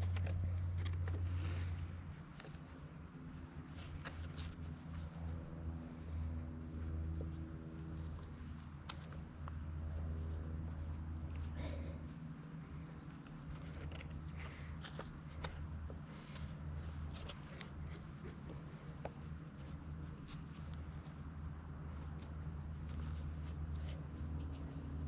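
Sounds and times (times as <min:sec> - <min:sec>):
cargo straps rustling and clicking: 0:00.0 - 0:25.0
low engine hum: 0:00.0 - 0:25.0.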